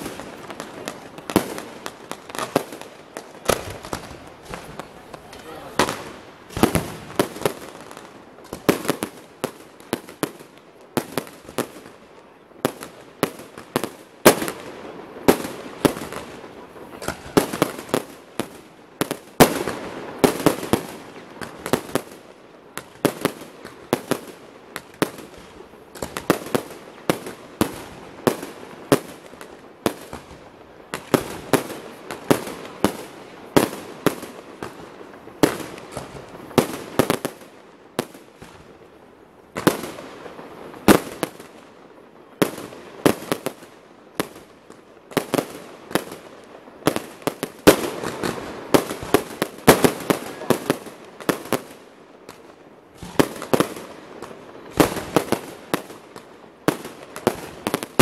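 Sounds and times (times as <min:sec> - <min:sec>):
fireworks bursting with sharp bangs: 0:00.0 - 0:58.0.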